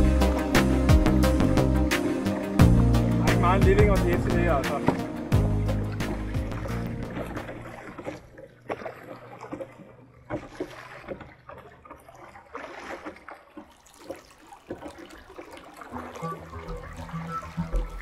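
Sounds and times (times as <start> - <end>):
paddle dipping into water: 0.0 - 18.0
water dripping off paddle blades: 0.0 - 18.0.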